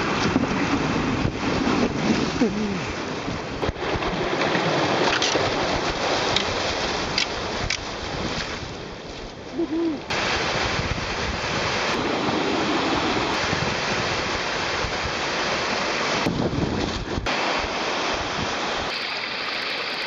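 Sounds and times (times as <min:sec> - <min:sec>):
wind buffeting microphone: 0:00.0 - 0:17.3
rushing river water: 0:00.0 - 0:20.0.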